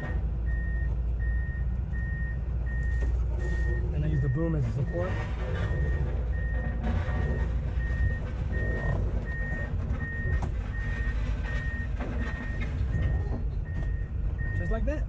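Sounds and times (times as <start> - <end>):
diesel engine running: 0.0 - 15.0
excavator travel alarm beeping: 0.0 - 15.0.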